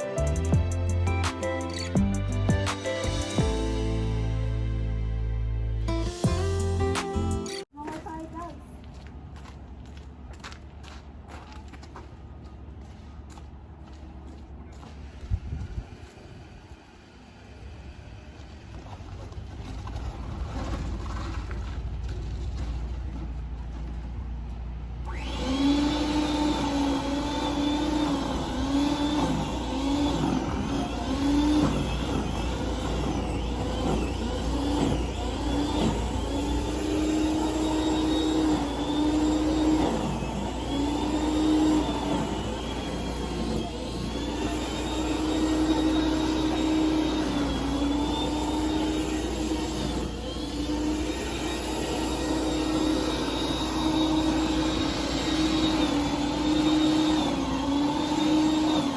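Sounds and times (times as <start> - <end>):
snowblower engine running: 0.0 - 7.0, 16.0 - 58.9.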